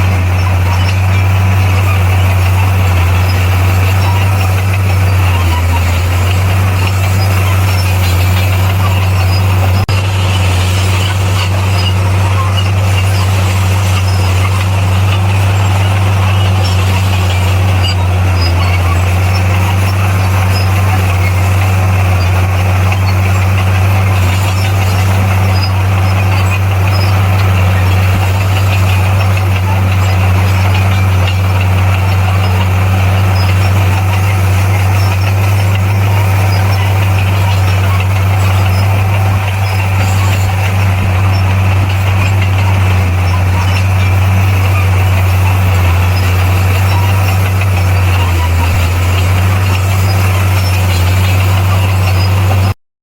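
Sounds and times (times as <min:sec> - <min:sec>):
heavy diesel engine running: 0:00.0 - 0:52.8.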